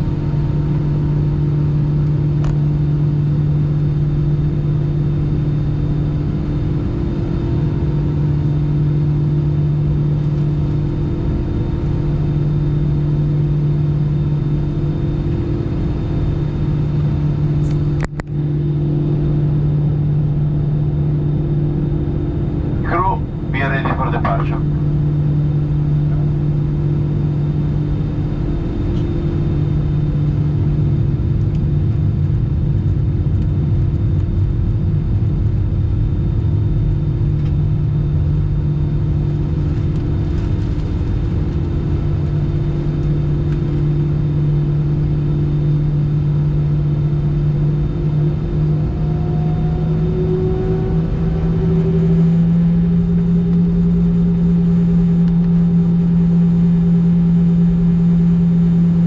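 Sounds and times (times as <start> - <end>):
jet engine hum: 0.0 - 59.0
low rumble: 0.0 - 59.0.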